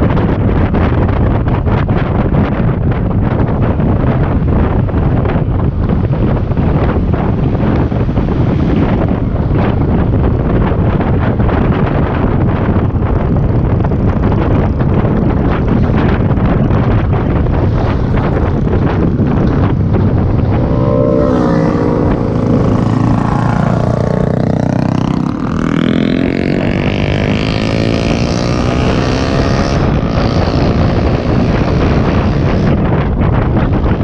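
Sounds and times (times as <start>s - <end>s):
wind rushing over microphone: 0.0s - 34.0s
motorcycle engine: 4.2s - 34.0s.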